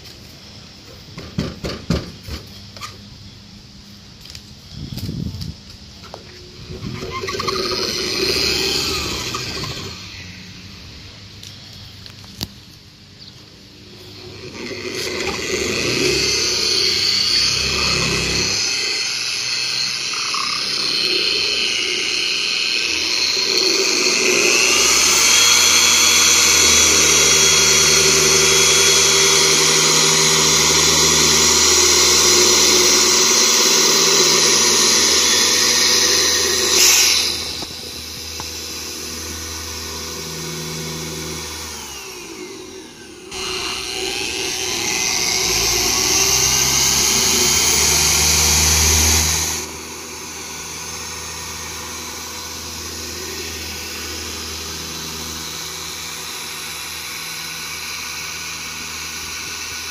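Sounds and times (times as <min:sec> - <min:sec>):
electric car polisher running: 0:06.1 - 0:11.5, 0:13.6 - 0:59.9.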